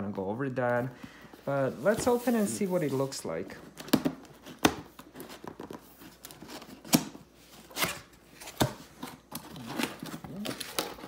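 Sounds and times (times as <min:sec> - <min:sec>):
cardboard flaps rustling: 0:00.6 - 0:11.0.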